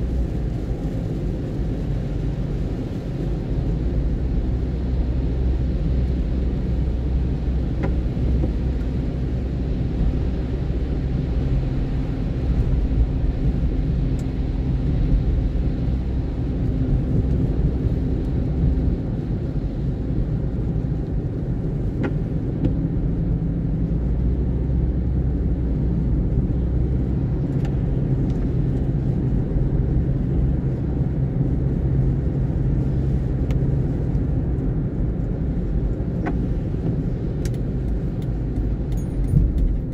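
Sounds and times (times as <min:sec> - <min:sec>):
car engine hum: 0:00.0 - 0:39.9
tyre noise on wet road: 0:00.0 - 0:39.9.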